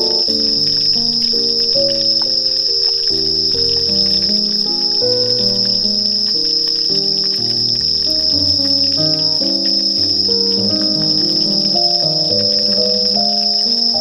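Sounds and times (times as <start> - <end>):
background music melody: 0.0 - 14.0
crickets trilling: 0.0 - 14.0.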